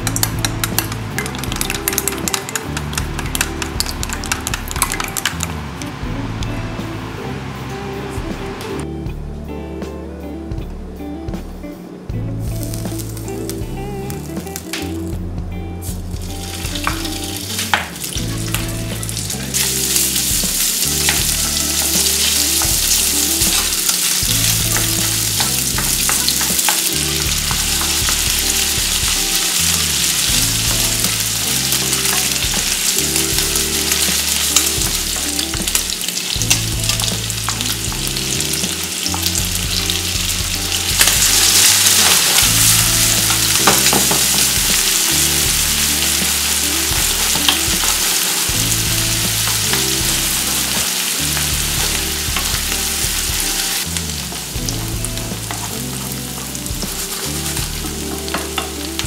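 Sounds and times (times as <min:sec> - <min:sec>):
pork sizzling in oil: 0:00.0 - 0:05.6, 0:12.7 - 0:14.3, 0:15.8 - 0:59.0.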